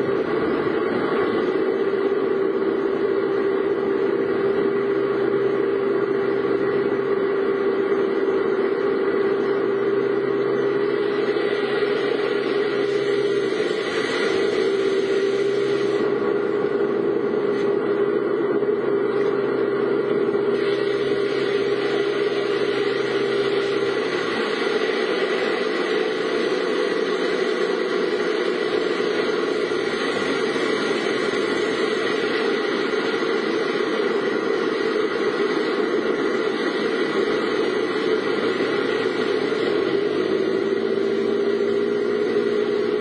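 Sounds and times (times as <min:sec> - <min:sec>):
car engine driving: 0:00.0 - 0:43.0
road noise: 0:00.0 - 0:43.0.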